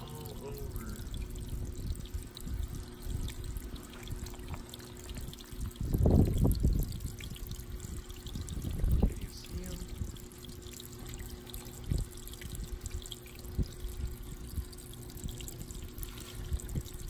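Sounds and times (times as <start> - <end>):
faint steady hum: 0.0 - 17.0
water trickling into pond: 0.0 - 17.0.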